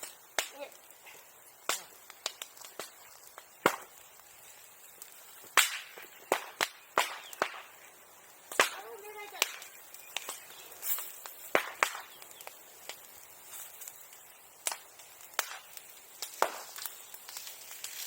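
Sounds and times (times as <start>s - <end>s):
bonfire popping and cracking: 0.0s - 18.0s.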